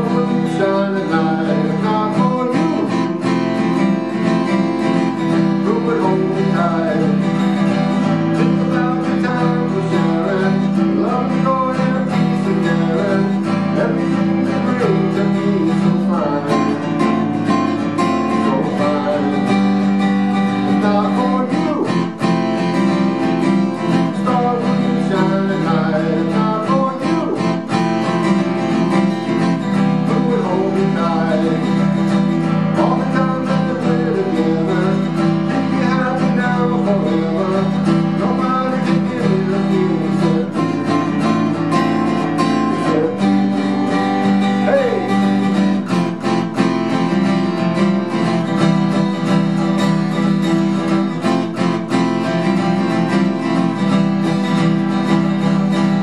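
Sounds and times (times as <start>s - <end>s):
solo acoustic guitar: 0.0s - 56.0s.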